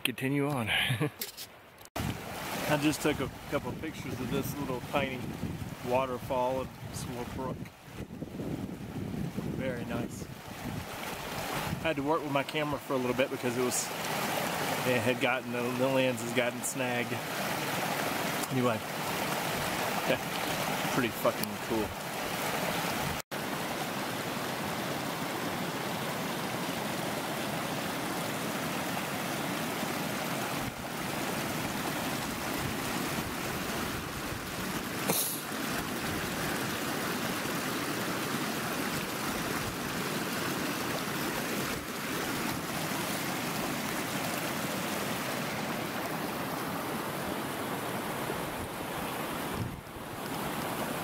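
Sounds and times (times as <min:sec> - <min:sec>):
brook running over rocks: 0:02.0 - 0:51.0.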